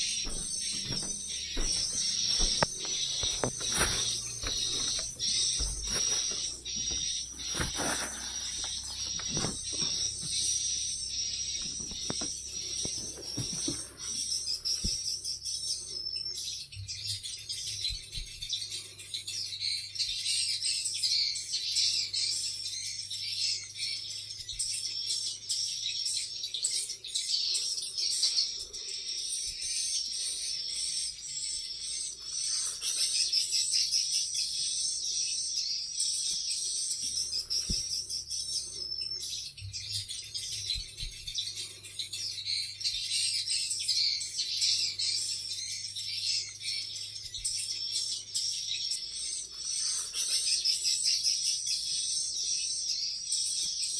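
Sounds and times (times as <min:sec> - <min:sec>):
birds chirping and twittering: 0:00.0 - 0:53.9.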